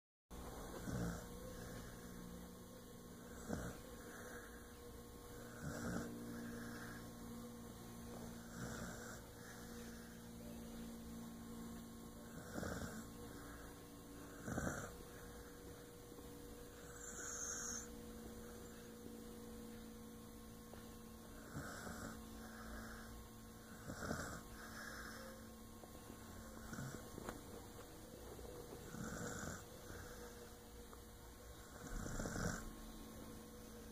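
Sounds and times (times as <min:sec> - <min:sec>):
steady electrical hum: 0:00.3 - 0:33.9
soft snoring: 0:00.5 - 0:10.9, 0:11.5 - 0:19.0, 0:20.6 - 0:33.9.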